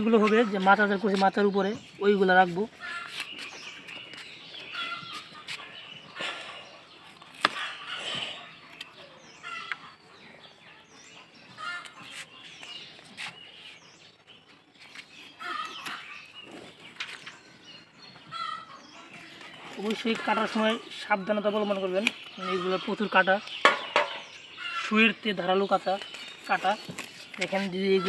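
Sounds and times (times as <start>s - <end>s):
bird calls: 0.0s - 28.0s.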